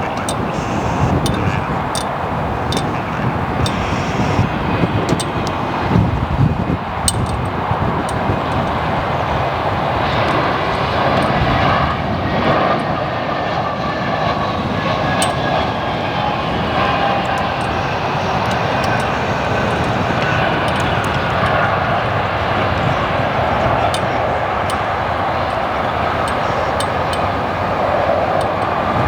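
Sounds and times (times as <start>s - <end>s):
faint engine whine: 0.0s - 29.0s
jet engines rushing: 0.0s - 29.0s.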